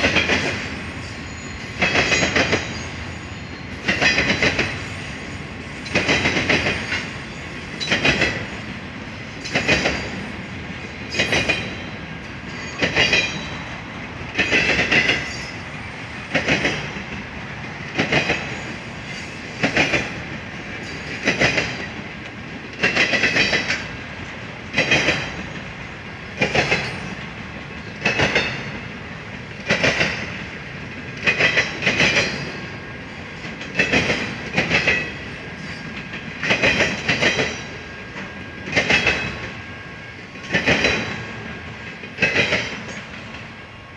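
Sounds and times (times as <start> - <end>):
train rolling rumble: 0.0 - 43.9
train wheels clacking on track: 0.0 - 43.9.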